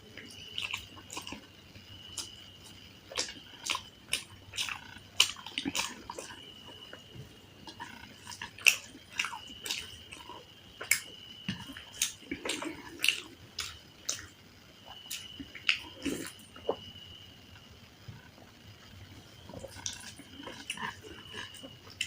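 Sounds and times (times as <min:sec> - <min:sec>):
wet chewing with mouth smacks: 0:00.1 - 0:16.8, 0:19.5 - 0:22.0.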